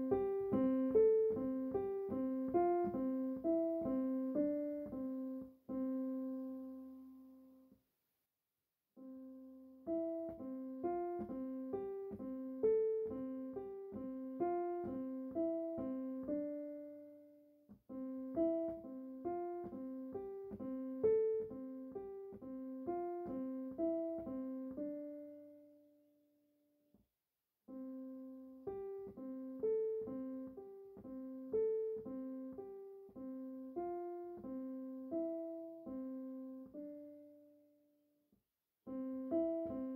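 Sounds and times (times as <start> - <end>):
solo piano melody: 0.0 - 7.8, 9.0 - 26.9, 27.6 - 38.2, 38.8 - 39.9.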